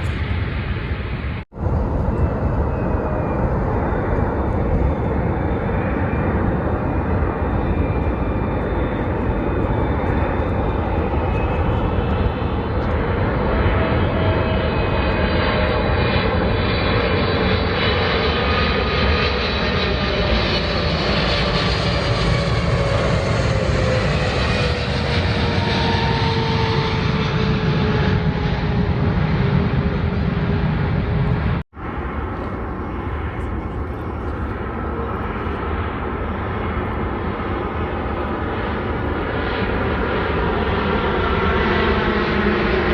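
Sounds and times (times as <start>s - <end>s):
jet engines roaring with whine: 0.0s - 42.9s.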